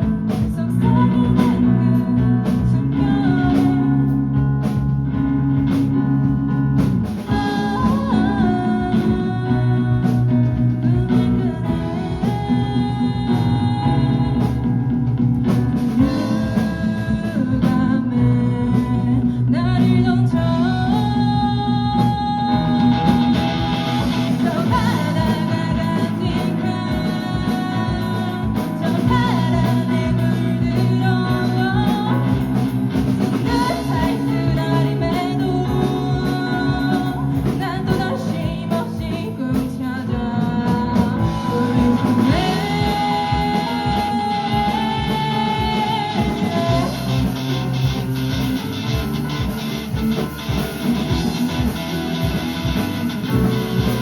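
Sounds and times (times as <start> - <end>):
person singing: 0.0 - 6.0, 7.2 - 54.0
rock band playing: 0.0 - 54.0.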